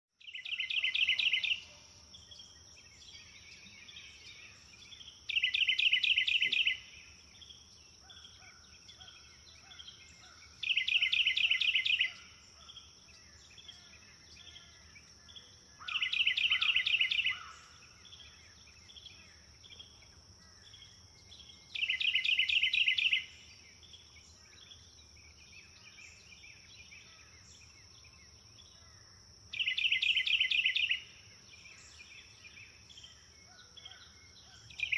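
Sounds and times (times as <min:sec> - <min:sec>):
soft bird calls: 0:00.2 - 0:34.9.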